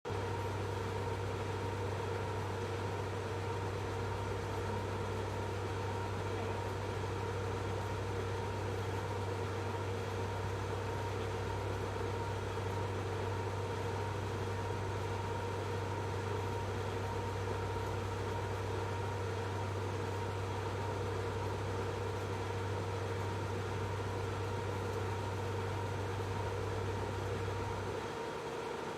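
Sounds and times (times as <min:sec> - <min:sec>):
machinery low hum: 0:00.1 - 0:28.9.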